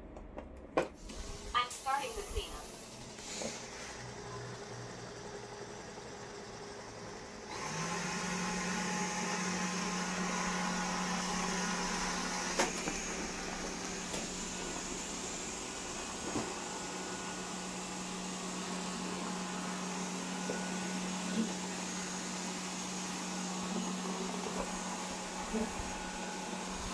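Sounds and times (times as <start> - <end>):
robot vacuum humming and whirring: 1.0 - 26.9.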